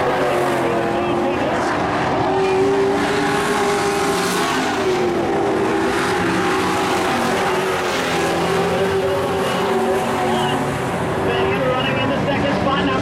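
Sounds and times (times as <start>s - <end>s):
race truck engines running hard: 0.0s - 13.0s.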